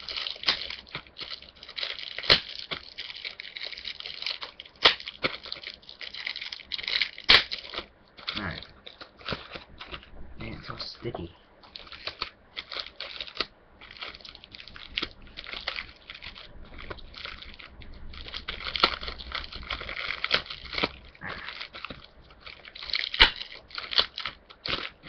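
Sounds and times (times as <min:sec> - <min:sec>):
plastic wrapper crinkling: 0:00.0 - 0:25.0.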